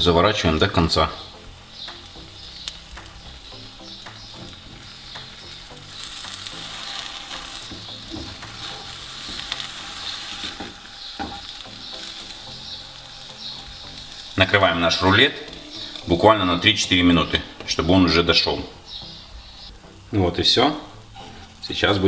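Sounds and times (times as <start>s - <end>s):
batter sizzling in a frying pan: 0.6s - 22.0s.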